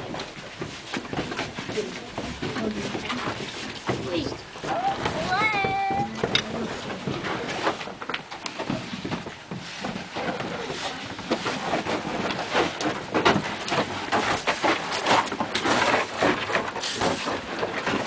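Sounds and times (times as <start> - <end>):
children shuffling and bumping: 0.0 - 18.0.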